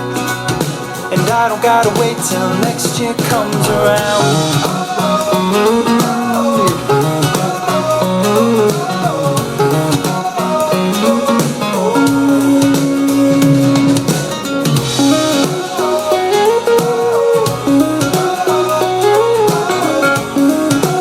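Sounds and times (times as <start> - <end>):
pop-rock guitar instrumental: 0.0 - 21.0.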